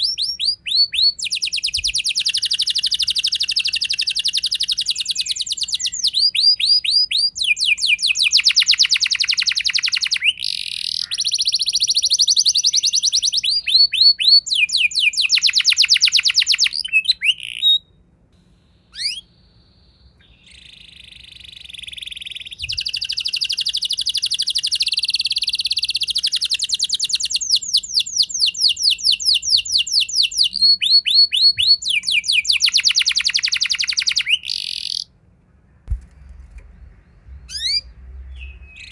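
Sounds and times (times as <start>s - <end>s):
canary singing trills: 0.0s - 18.0s, 18.7s - 35.1s, 36.7s - 38.9s.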